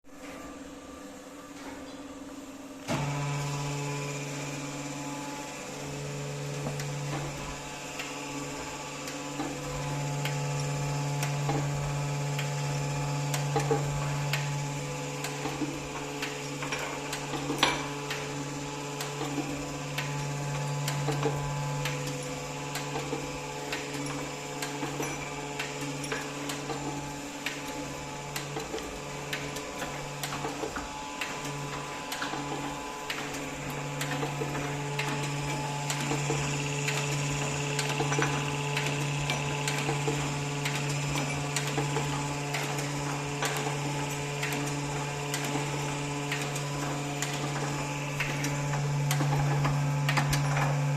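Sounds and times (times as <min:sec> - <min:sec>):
motor and pump hum: 0:00.1 - 0:50.9.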